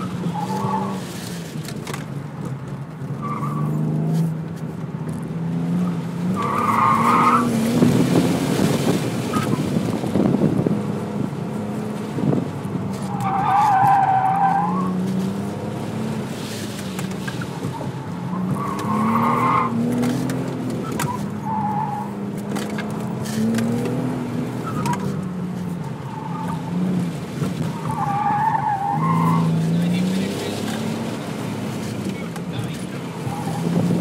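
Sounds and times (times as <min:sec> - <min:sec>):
tires squealing: 0:00.0 - 0:01.6, 0:03.1 - 0:04.4, 0:05.6 - 0:10.3, 0:12.2 - 0:34.0
car engine revving: 0:03.0 - 0:34.0.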